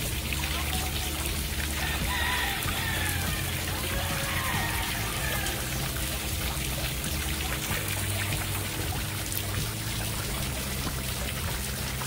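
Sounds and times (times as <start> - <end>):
background music: 0.0 - 12.0
fountain water trickling over stones: 0.0 - 12.0.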